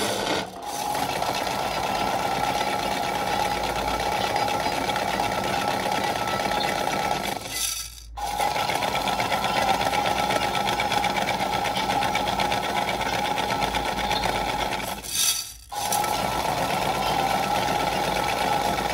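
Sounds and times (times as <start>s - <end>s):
toy motors whirring and rattling: 0.0s - 18.9s.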